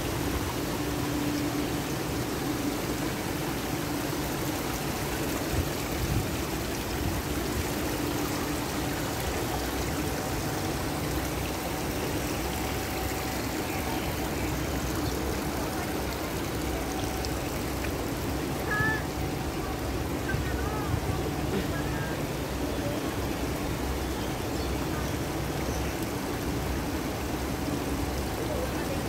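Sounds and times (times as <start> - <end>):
water trickling over rocks: 0.0 - 29.0.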